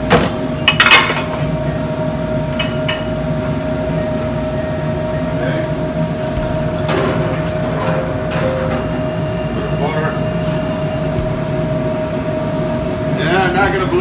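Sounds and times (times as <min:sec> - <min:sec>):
ventilation fans humming: 0:00.0 - 0:14.0.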